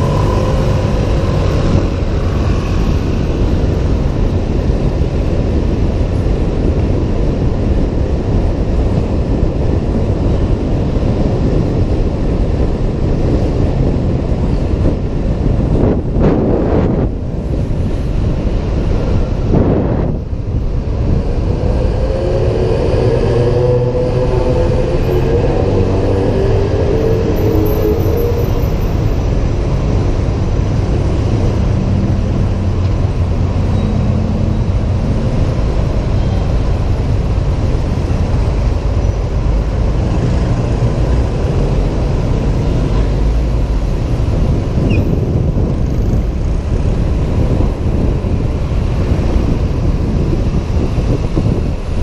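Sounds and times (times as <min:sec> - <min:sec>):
scooter engine and road noise: 0:00.0 - 0:52.0
wind buffeting camera: 0:00.0 - 0:52.0.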